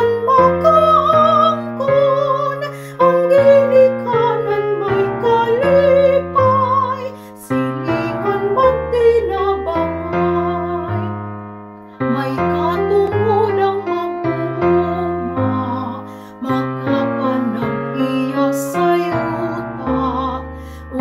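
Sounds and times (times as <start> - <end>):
woman singing a hymn: 0.0 - 11.2, 12.0 - 21.0
piano chords: 0.0 - 21.0.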